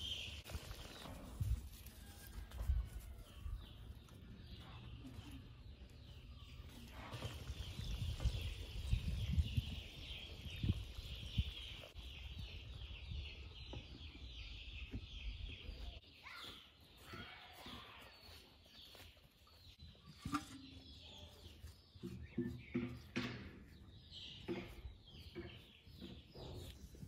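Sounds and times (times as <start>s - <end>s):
small birds chirping: 0.0s - 2.2s, 3.2s - 27.0s.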